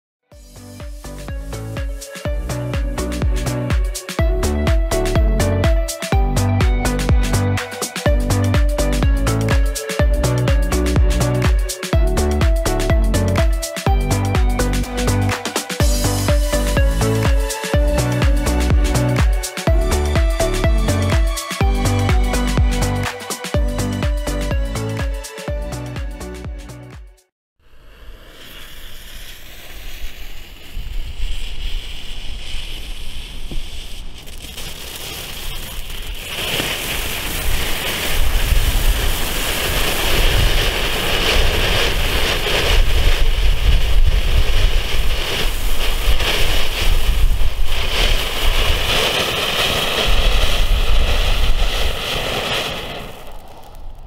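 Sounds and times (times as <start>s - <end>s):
firework fountain hissing sparks: 0.4s - 4.6s, 7.3s - 12.0s, 13.2s - 25.5s, 27.7s - 54.0s.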